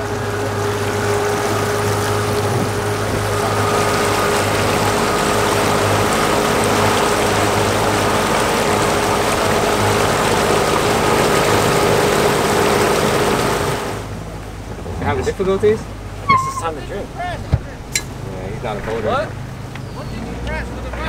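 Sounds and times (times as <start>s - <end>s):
churned water rushing: 0.0s - 21.0s
outboard motor running: 0.0s - 21.0s.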